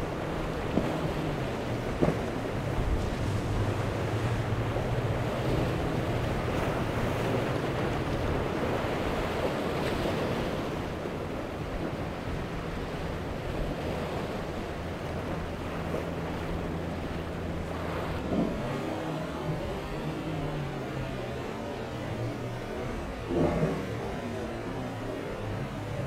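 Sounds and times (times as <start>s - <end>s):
boat engines droning: 0.0s - 26.0s
surf splashing around boat hull: 0.0s - 26.0s
wind on microphone: 0.0s - 26.0s.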